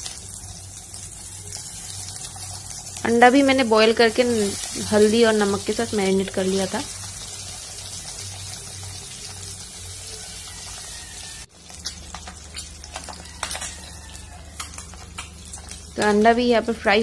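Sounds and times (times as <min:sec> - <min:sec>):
eggs sizzling in hot oil: 0:00.0 - 0:17.0.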